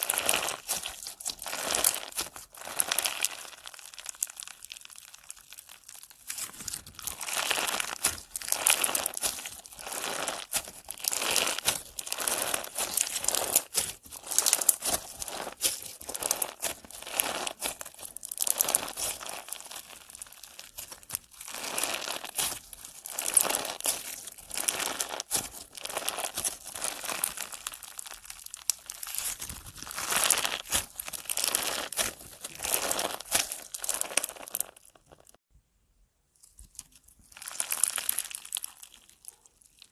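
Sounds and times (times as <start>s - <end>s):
slime squeezed crackling and popping: 0.0s - 35.4s, 36.6s - 39.9s.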